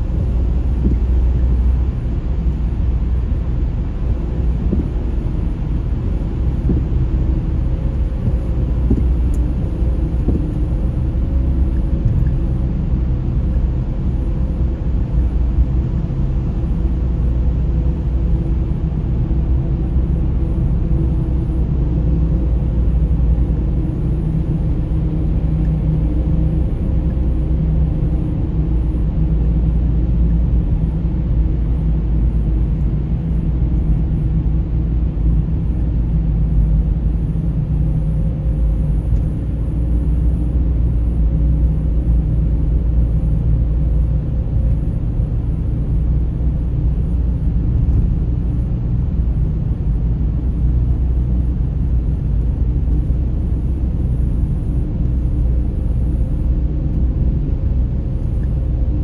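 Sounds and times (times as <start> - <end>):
car driving through tunnel: 0.0 - 59.0
surrounding traffic rumble: 0.0 - 59.0.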